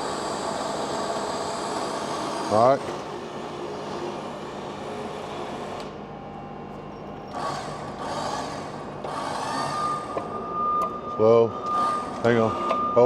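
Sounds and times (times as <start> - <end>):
crane mechanical noise: 0.0 - 13.0.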